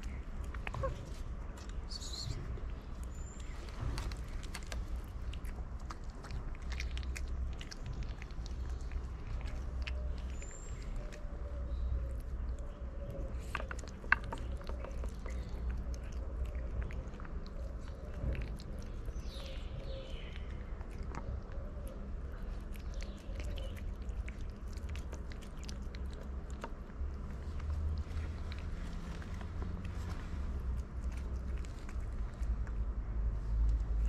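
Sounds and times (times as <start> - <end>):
cat chewing wet food: 3.0 - 34.0.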